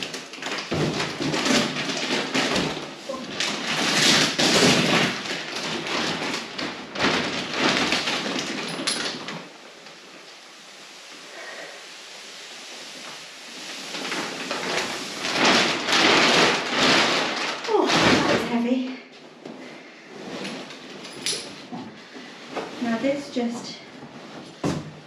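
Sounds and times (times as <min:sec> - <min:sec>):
packaging rustling and crinkling: 0:00.0 - 0:25.0.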